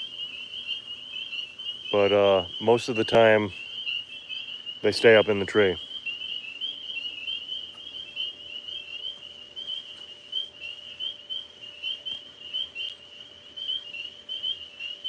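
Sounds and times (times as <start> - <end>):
tree frogs peeping: 0.0 - 15.0.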